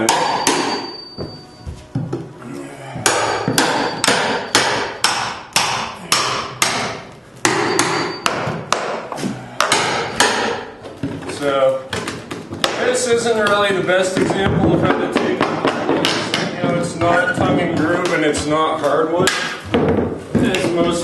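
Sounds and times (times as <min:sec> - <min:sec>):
hammer blows on floorboards: 0:02.9 - 0:11.3, 0:11.9 - 0:21.0.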